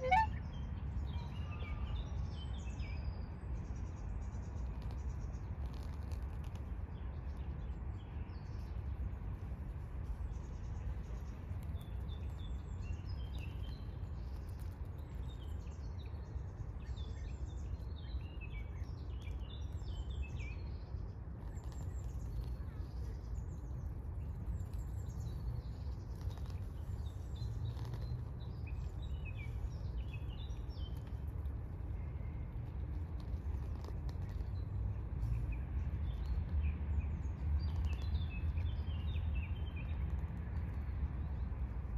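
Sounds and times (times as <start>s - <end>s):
low background rumble: 0.0s - 41.9s
small birds chirping: 0.0s - 41.9s.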